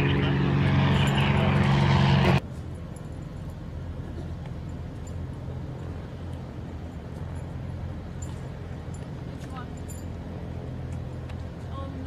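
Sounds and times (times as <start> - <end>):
distant aircraft engines droning: 0.0 - 12.0.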